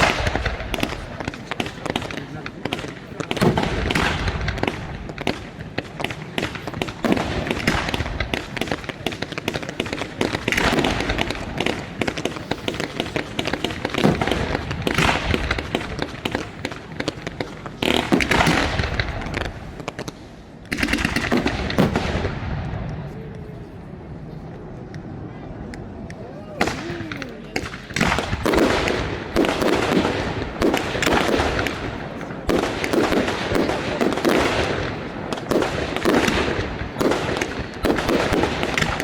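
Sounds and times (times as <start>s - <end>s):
fireworks bangs and crackle: 0.0s - 39.0s.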